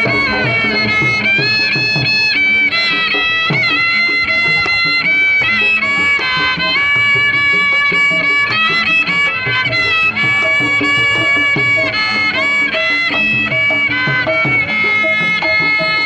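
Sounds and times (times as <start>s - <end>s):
hand drums beat: 0.0s - 16.0s
high held melody: 0.0s - 16.0s.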